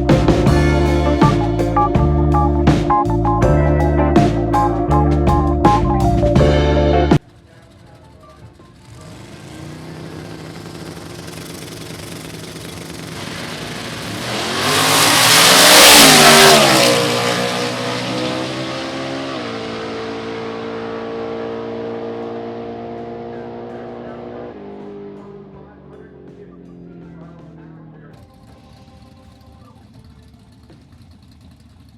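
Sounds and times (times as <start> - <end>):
vehicle engine passing by: 0.0 - 31.9.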